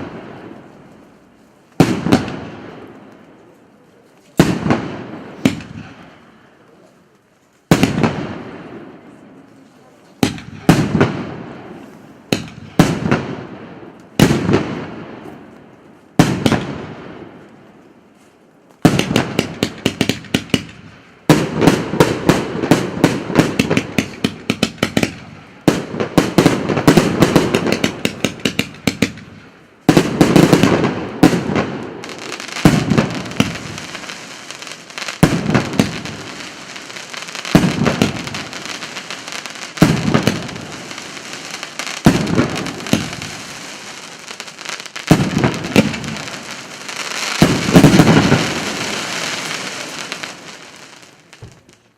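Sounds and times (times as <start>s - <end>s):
fireworks bangs: 0.0s - 6.4s, 7.6s - 17.9s, 18.8s - 51.9s
fireworks crackle: 0.0s - 51.9s.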